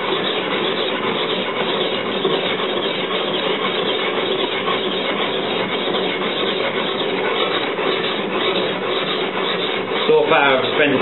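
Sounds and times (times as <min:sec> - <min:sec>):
blade scraping on sharpening stone: 0:00.1 - 0:11.0.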